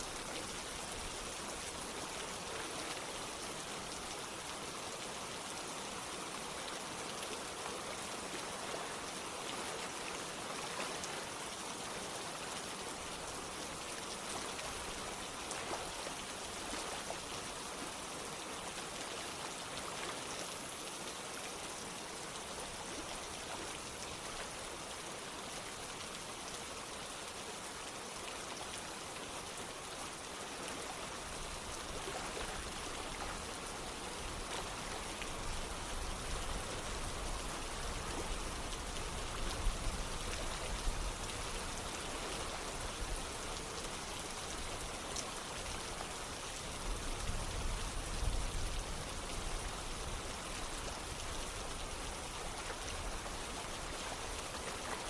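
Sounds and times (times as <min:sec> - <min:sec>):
running water: 0:00.0 - 0:55.0
steady rain: 0:00.0 - 0:55.0.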